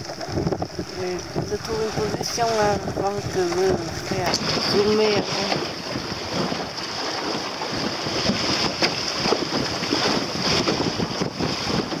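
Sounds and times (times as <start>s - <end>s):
water slapping against hull: 0.0s - 12.0s
wind buffeting microphone: 0.0s - 12.0s.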